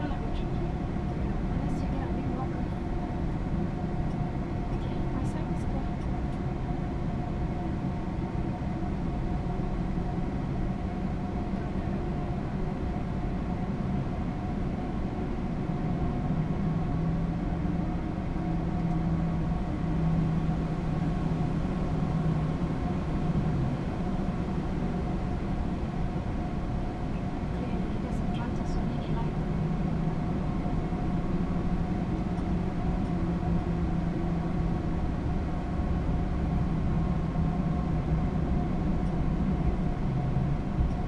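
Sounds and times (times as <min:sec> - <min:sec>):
air-conditioning: 0:00.0 - 0:41.0
idling jet engines rumble: 0:00.0 - 0:41.0.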